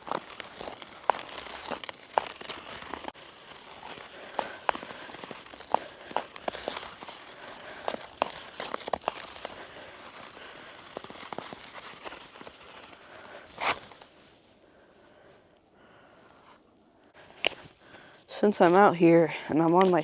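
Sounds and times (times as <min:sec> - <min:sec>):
ice skates scraping through snow: 0:00.0 - 0:15.4, 0:17.2 - 0:20.0
sharp ice crackles: 0:00.0 - 0:15.4, 0:17.1 - 0:20.0.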